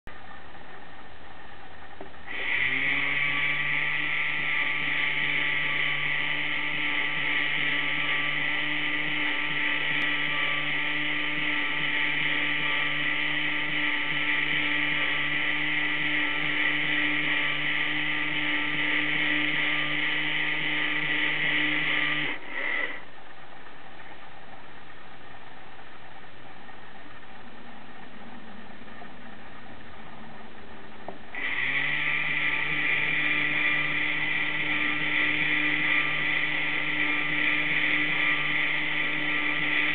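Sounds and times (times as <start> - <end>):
small electric motor and gear whine: 2.2 - 23.2, 26.8 - 39.9.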